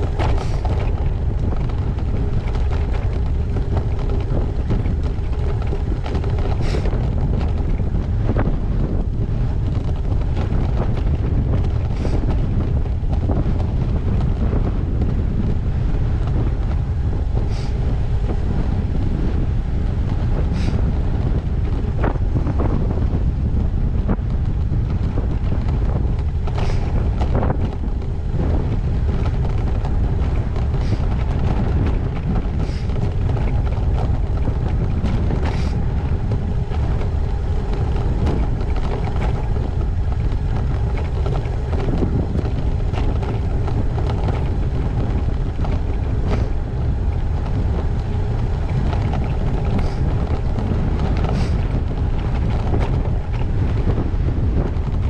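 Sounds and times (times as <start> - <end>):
bike rattles and knocks: 0.0 - 55.0
steady low rumble: 0.0 - 55.0
wind buffeting microphone: 0.0 - 55.0.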